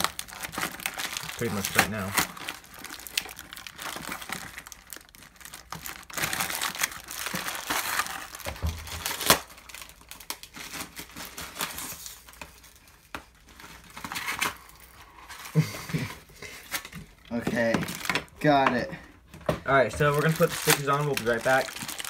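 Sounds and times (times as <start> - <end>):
plastic packaging crinkling: 0.0 - 18.6, 19.7 - 22.0.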